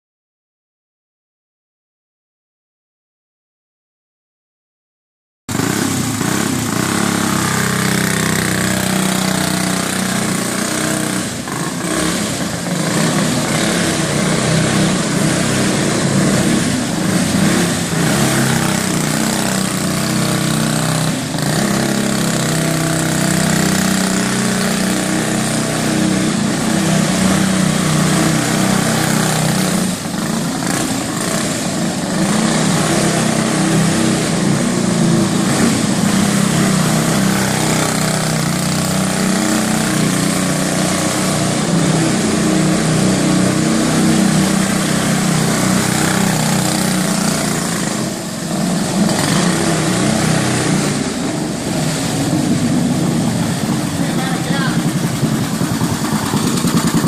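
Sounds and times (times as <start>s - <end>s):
go-kart engine revving: 5.5s - 57.0s.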